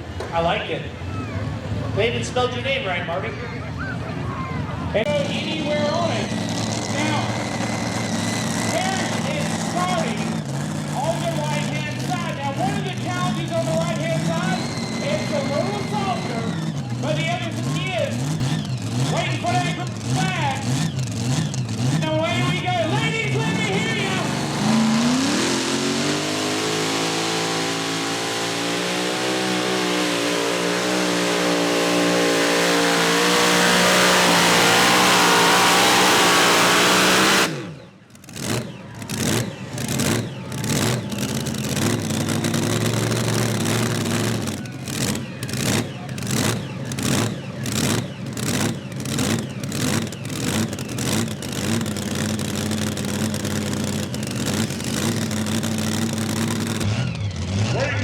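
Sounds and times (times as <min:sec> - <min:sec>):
tractor engine at full throttle: 0:00.0 - 0:58.0.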